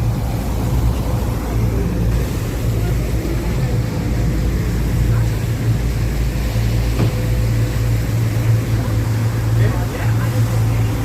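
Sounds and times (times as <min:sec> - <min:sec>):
boat engine low drone: 0:00.0 - 0:11.0.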